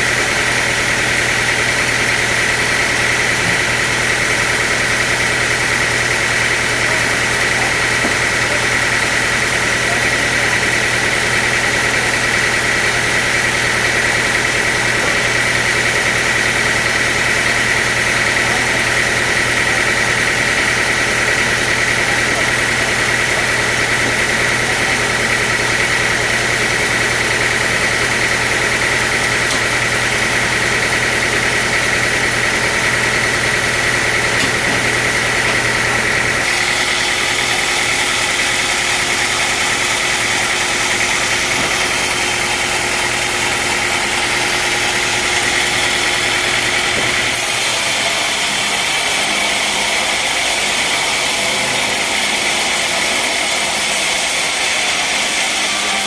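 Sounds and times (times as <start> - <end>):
sawmill machinery whine: 0.0 - 56.0.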